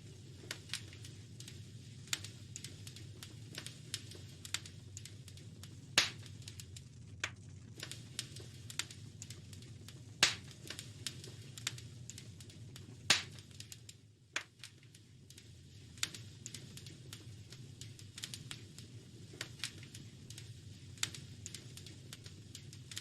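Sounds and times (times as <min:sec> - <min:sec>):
low steady rumble: 0:00.0 - 0:22.6
wood fire crackling: 0:00.0 - 0:23.0.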